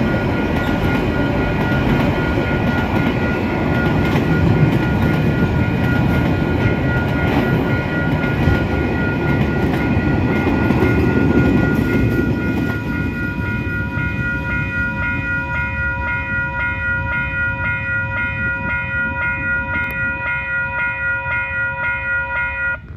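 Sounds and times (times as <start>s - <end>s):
crossing warning bells ringing: 0.0s - 22.9s.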